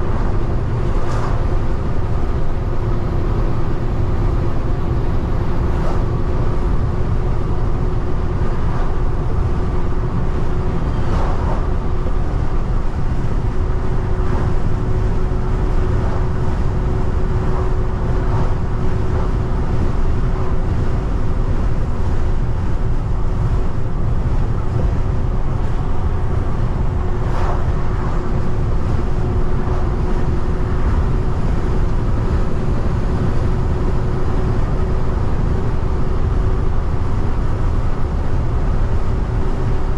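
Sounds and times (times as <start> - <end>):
constant hum: 0.0 - 39.9
low diesel engine drone: 0.0 - 39.9
road noise: 0.0 - 39.9.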